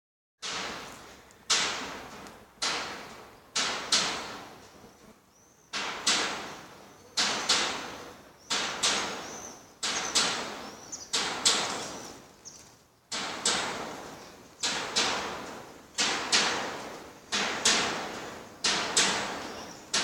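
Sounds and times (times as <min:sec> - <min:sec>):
loose roof sheet banging: 0:00.4 - 0:04.6, 0:05.7 - 0:12.3, 0:13.1 - 0:20.0.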